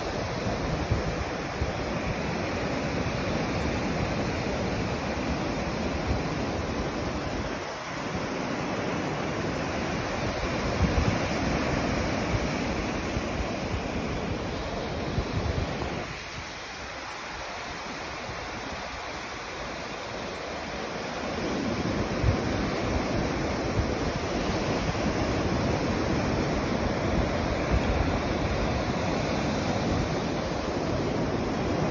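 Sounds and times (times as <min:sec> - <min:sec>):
ocean surf washing onto beach: 0:00.0 - 0:31.9
wind buffeting microphone: 0:00.0 - 0:31.9.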